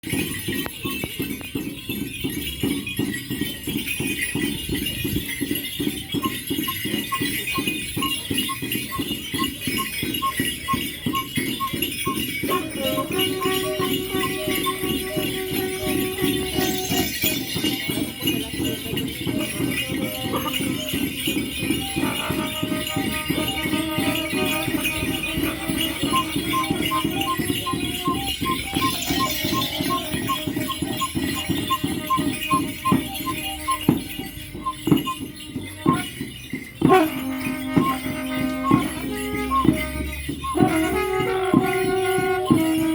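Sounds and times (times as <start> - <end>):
fast drum beat: 0.0 - 42.9
high melodic notes: 0.0 - 42.9
jingling bells and rattles: 0.0 - 42.9.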